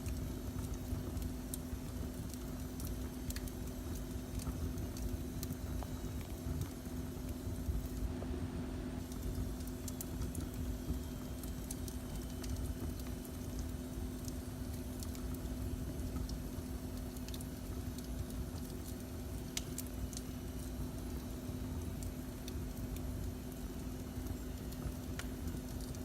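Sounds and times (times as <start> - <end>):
fire crackling and popping: 0.0 - 8.4, 9.0 - 26.0
faint steady hum: 0.0 - 26.0
low rumble of fire: 0.0 - 26.0.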